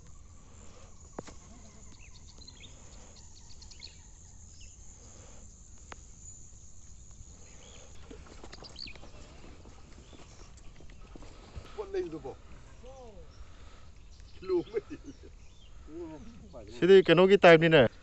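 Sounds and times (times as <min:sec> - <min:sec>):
bird chirps: 0:00.0 - 0:16.8
high insect drone: 0:00.0 - 0:18.0.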